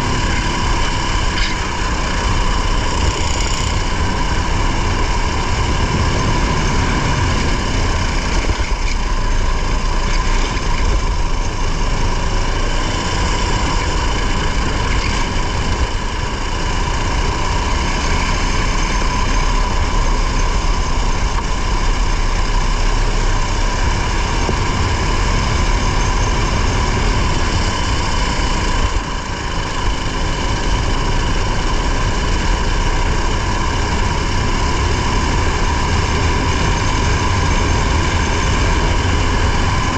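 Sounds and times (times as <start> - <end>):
race car engine running hard: 0.0 - 39.9
road and wind noise: 0.0 - 39.9.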